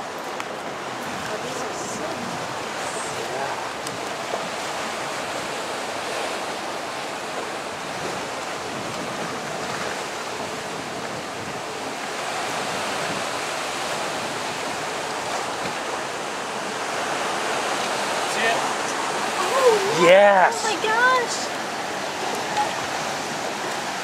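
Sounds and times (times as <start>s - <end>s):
waves washing against rock: 0.0s - 24.0s.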